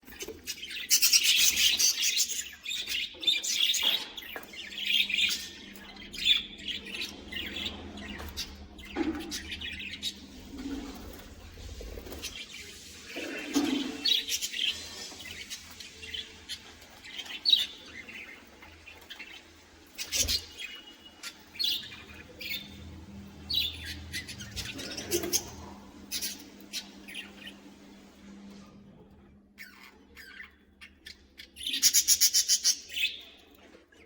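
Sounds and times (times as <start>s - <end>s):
budgerigars chirping: 0.2s - 27.6s, 29.6s - 33.4s.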